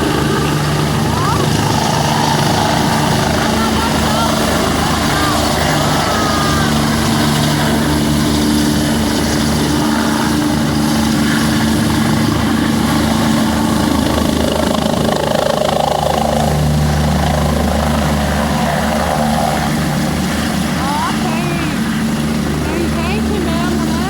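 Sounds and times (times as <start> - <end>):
helicopter rotor beating: 0.0 - 24.0.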